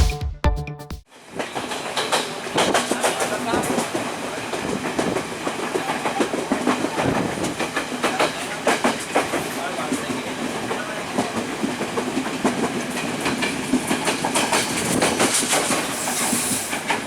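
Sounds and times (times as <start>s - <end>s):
train wheels clattering over rails: 1.3s - 17.0s.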